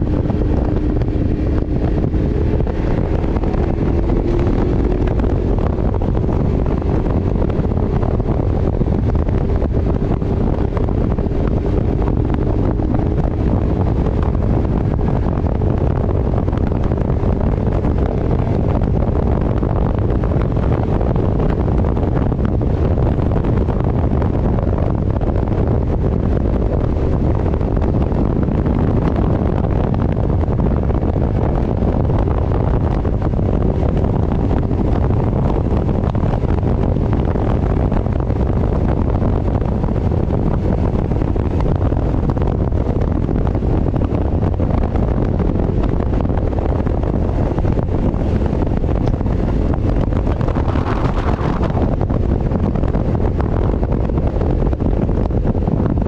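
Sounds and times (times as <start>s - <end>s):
motorcycle engine drone: 0.0s - 56.0s
wind buffeting microphone: 0.0s - 56.0s.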